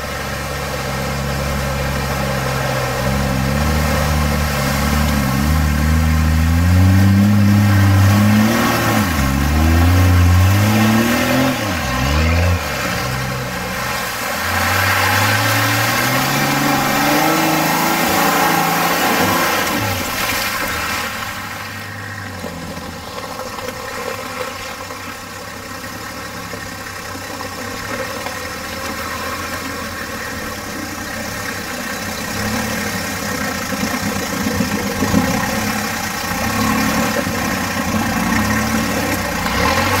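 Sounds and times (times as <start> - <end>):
four-wheel drive engine at low revs: 0.0 - 40.0.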